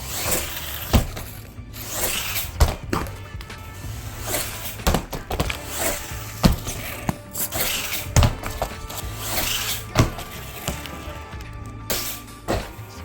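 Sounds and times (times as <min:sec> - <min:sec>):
background music with drum beat: 0:00.0 - 0:13.0.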